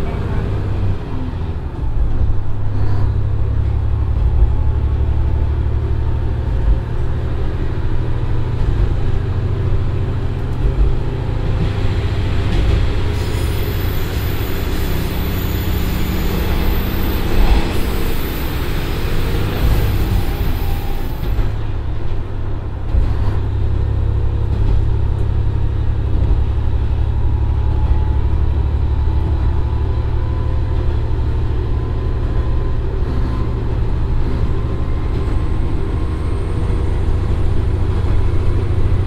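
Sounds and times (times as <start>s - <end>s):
diesel engine accelerating: 0.0s - 39.0s
train wheels on rails: 0.0s - 39.0s.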